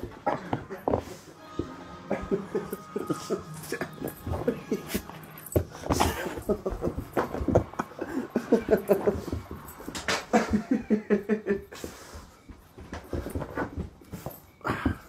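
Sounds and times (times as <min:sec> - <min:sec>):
knocks and scuffling on floor: 0:00.0 - 0:15.0.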